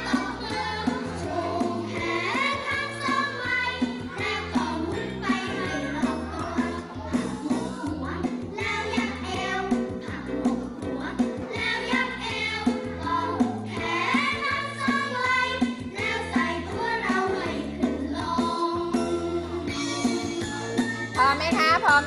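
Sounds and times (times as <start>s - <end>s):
group of voices singing: 0.0s - 20.9s.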